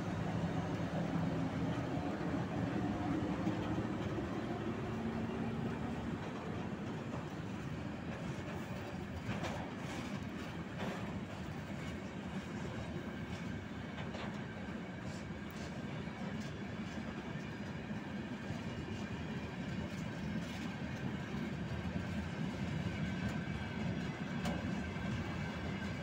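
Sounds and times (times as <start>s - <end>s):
electric locomotive humming: 0.0s - 26.0s
freight wagons rumbling on rails: 0.0s - 26.0s.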